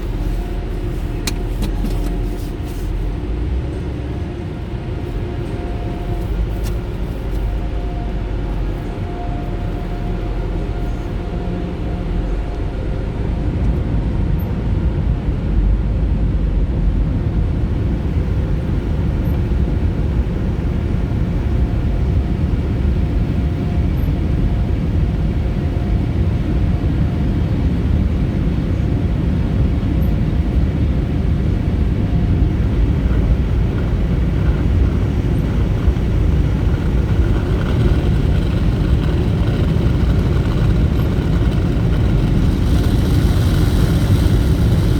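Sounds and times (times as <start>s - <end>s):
car wash machinery rumbling: 0.0s - 44.9s.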